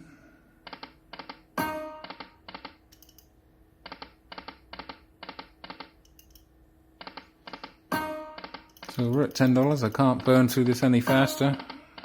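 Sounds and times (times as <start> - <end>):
slot machine reels clicking: 0.6 - 6.4, 7.0 - 12.0.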